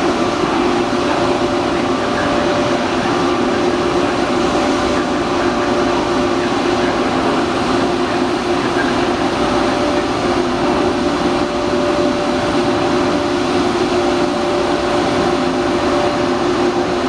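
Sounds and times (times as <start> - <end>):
electric train whine: 0.0 - 17.0.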